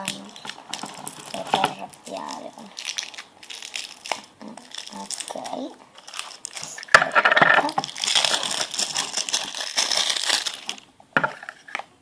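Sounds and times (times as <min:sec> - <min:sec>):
plastic packaging tearing: 0:00.0 - 0:11.8.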